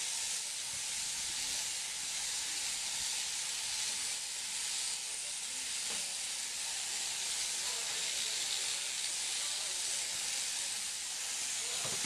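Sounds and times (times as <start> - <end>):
electric shearing handpiece hissing: 0.0 - 12.0.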